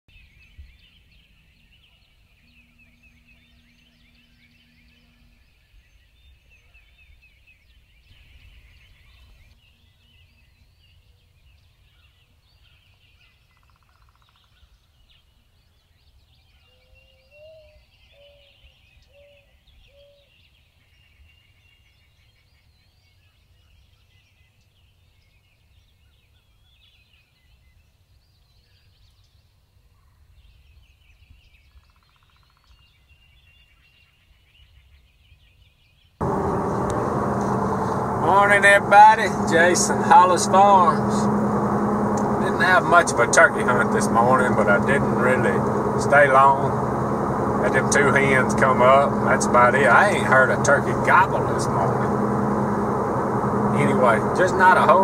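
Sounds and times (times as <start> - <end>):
songbird chorus: 0.1 - 55.0.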